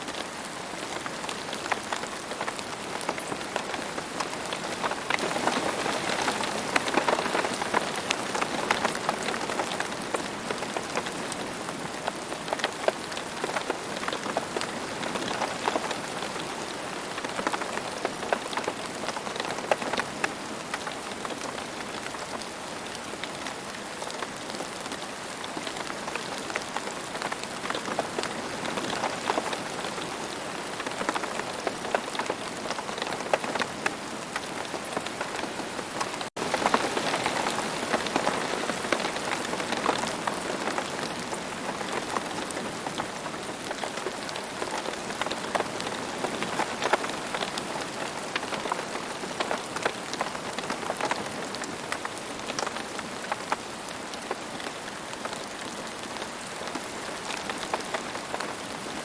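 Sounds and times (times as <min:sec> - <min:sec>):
rain falling on ground: 0:00.0 - 0:59.0.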